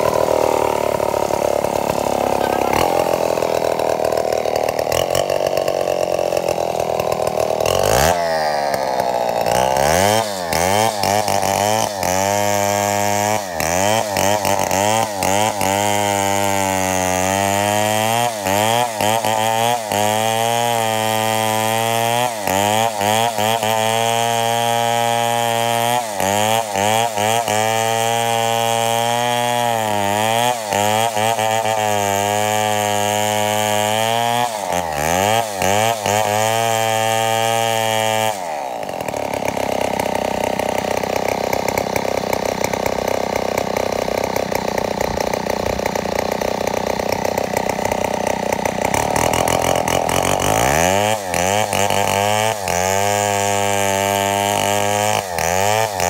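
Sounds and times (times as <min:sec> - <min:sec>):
chainsaw engine running unevenly: 0:00.0 - 0:56.0.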